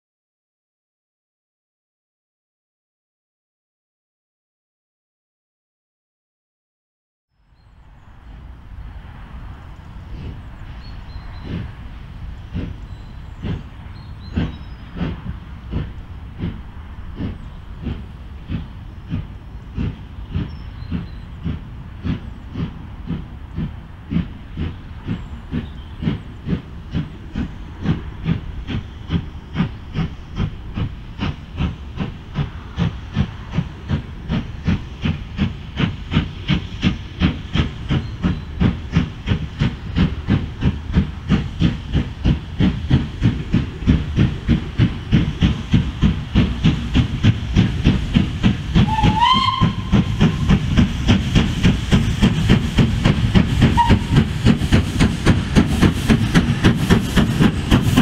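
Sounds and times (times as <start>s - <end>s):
steam locomotive exhaust beats: 7.6s - 58.0s
steam hissing: 8.2s - 58.0s.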